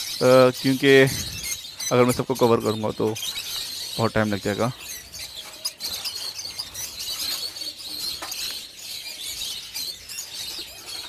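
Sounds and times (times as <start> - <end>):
cage birds chirping: 0.0 - 11.0.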